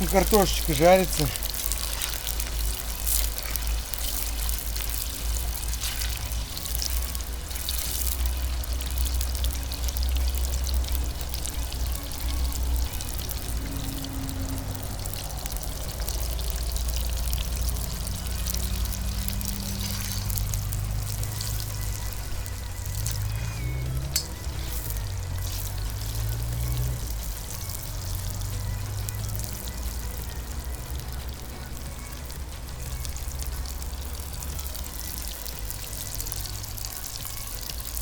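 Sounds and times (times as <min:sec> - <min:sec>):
fries deep-frying in oil: 0:00.0 - 0:38.0
low rumble: 0:01.3 - 0:35.4.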